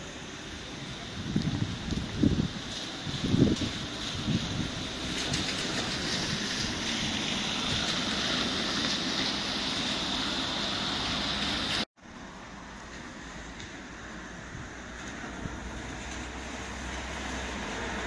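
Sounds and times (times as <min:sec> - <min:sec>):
outdoor street ambience hiss: 0:00.0 - 0:18.0.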